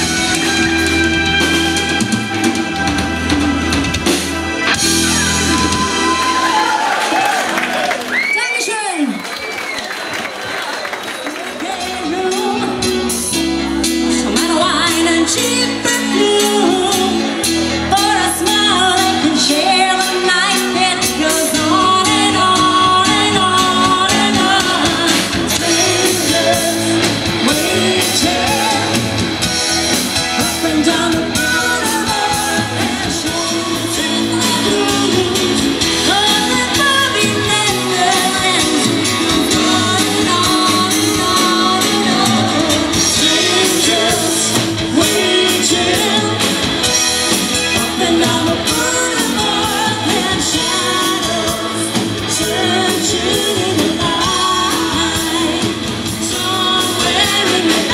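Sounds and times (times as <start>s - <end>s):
live rock band playing: 0.0s - 8.9s, 11.0s - 57.9s
lead singer singing: 11.5s - 57.9s.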